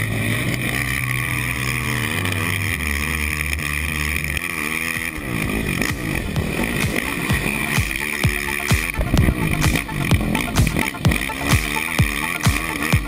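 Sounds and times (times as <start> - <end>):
quad engine revving: 0.0 - 13.0
steady low hum: 0.0 - 13.0.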